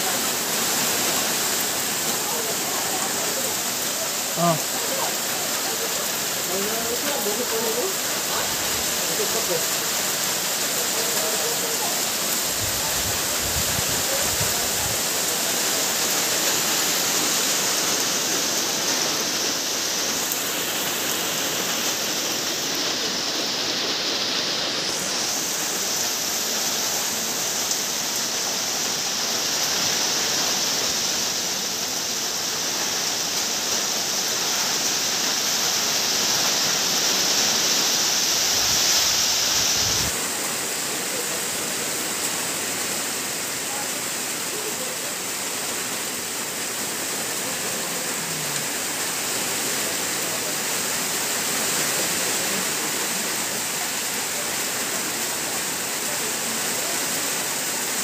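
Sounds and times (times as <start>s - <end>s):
heavy rain pouring on vegetation: 0.0s - 58.0s
runoff water rushing over soil: 0.0s - 58.0s.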